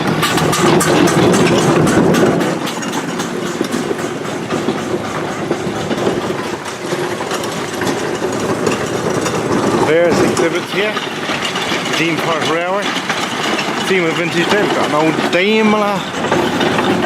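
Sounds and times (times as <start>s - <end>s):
train clattering on track: 0.0s - 17.0s.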